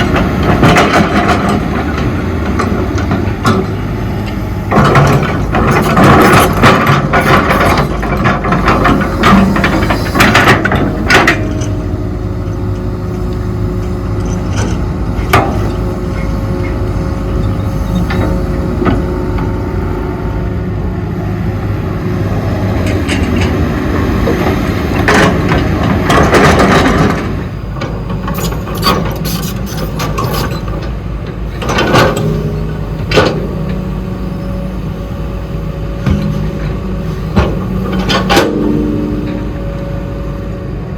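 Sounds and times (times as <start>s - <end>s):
excavator diesel engine: 0.0s - 40.9s
hydraulic whine: 0.0s - 40.9s.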